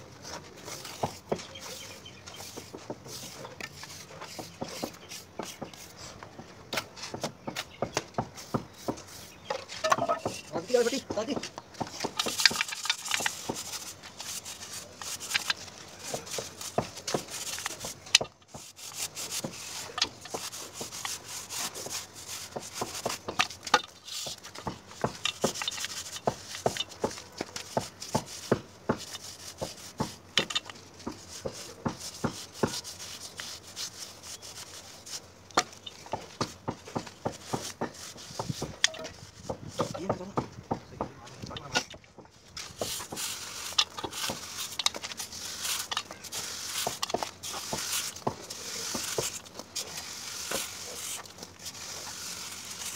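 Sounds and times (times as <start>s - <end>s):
plastering tools scraping and tapping: 0.0s - 52.9s.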